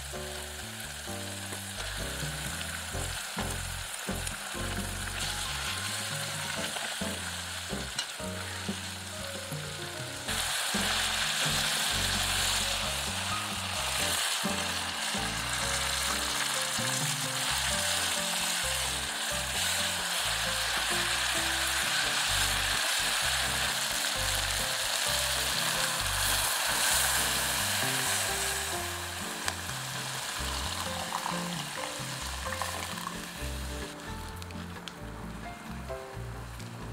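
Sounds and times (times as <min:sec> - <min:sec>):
meat sizzling in oil: 0:00.0 - 0:35.4.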